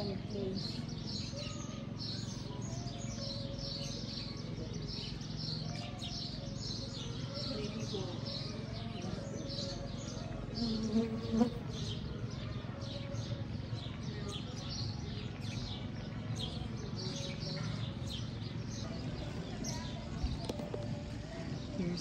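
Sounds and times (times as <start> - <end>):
faint distant voices: 0.0 - 22.0
low steady hum: 0.0 - 22.0
small birds chirping: 0.0 - 22.0.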